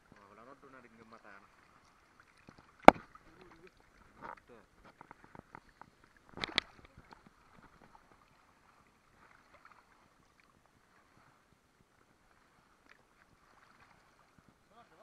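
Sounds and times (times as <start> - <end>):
water sloshing: 0.0 - 15.0.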